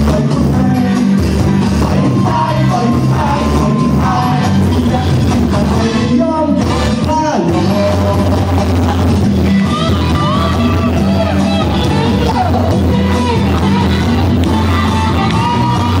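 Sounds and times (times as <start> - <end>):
man singing into microphone: 0.0 - 13.9
amplified band music with keyboard: 0.0 - 16.0.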